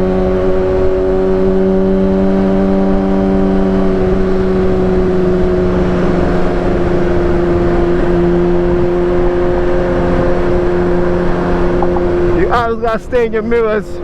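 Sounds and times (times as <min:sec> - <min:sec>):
motorcycle engine riding: 0:00.0 - 0:13.4.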